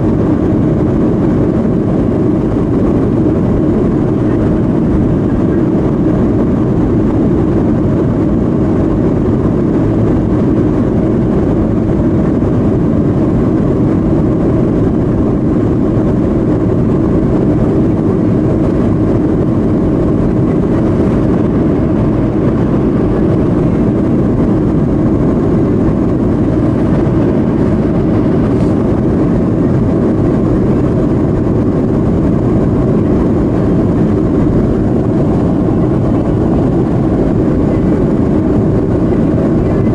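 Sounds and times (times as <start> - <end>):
jet engine rush in cabin: 0.0 - 39.9.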